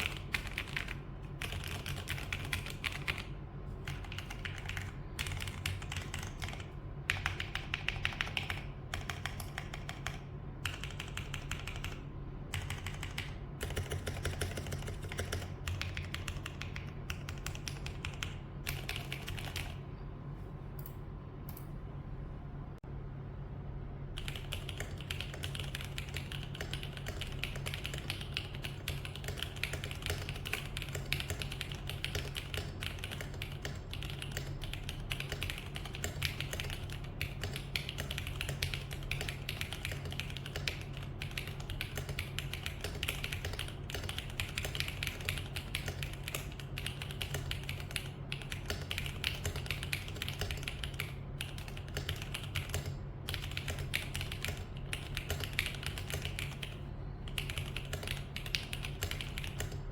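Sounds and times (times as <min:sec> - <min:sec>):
mechanical keyboard typing: 0:00.0 - 0:19.8, 0:24.2 - 0:59.9
steady low hum: 0:00.0 - 0:59.9.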